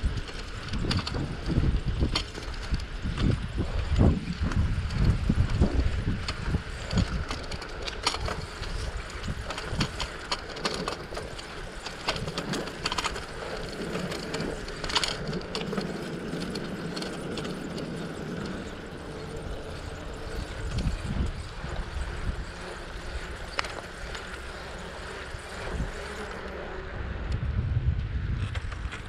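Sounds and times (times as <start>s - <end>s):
bicycle clicking and rattling: 0.0s - 29.0s
tyre and wind rumble: 0.0s - 29.0s.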